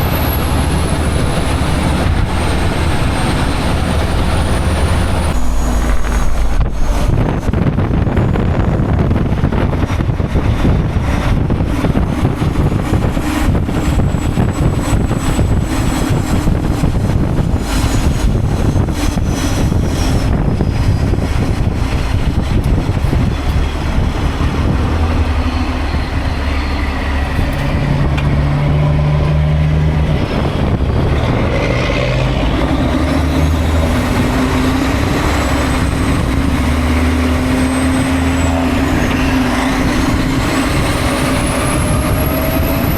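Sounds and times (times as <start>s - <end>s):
road noise: 0.0s - 42.9s
truck engine drone: 0.0s - 42.9s.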